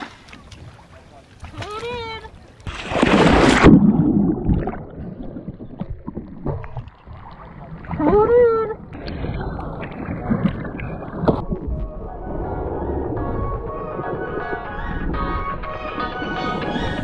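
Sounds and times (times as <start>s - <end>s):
water sloshing and bubbling: 0.0s - 15.7s.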